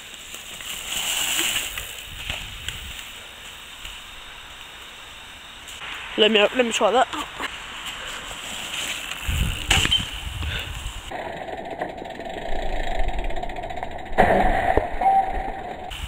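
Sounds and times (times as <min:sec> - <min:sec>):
bike tyres rumbling on dirt: 0:00.0 - 0:05.4, 0:07.5 - 0:16.0.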